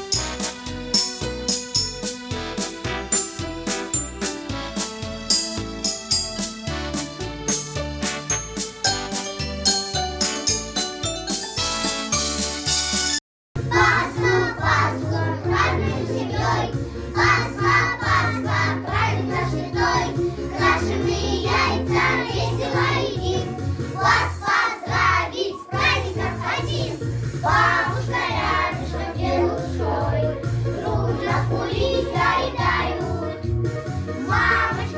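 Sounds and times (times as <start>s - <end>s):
instrumental accompaniment with bass: 0.0s - 34.9s.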